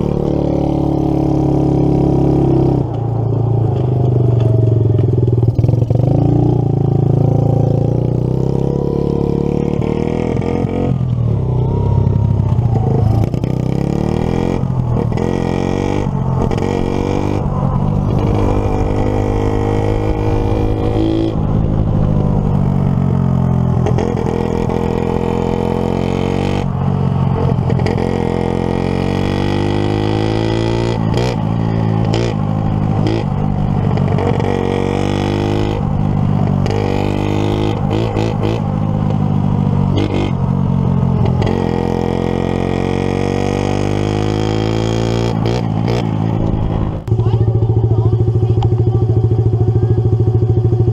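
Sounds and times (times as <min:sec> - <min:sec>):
engine revving: 0:04.9 - 0:48.6.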